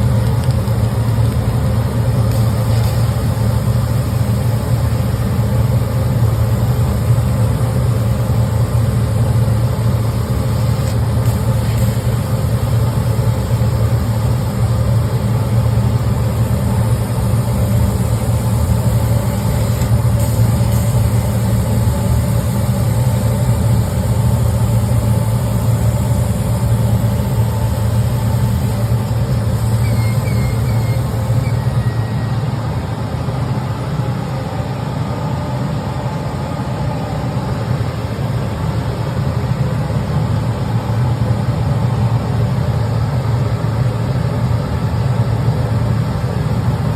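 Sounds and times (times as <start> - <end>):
machine hum: 0.0 - 38.3.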